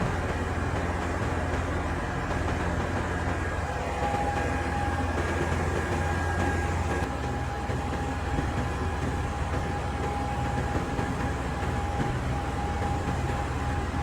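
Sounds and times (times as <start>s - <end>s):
large diesel engine rumbling: 0.0s - 14.0s
thin steady whine: 0.0s - 14.0s.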